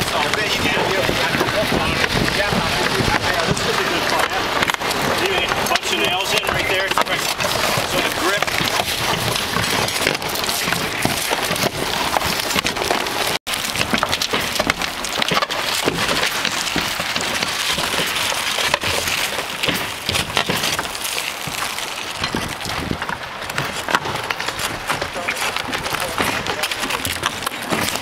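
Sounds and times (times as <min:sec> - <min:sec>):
shovels scraping shingles off roof: 0:00.0 - 0:28.0.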